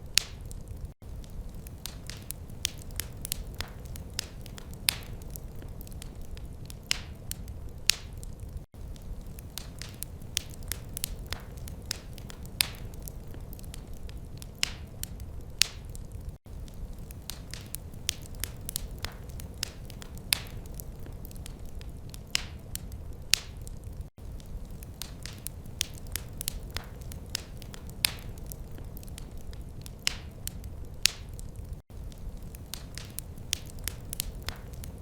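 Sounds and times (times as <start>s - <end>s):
wood fire crackling: 0.0s - 35.0s
low fire rumble: 0.1s - 35.0s.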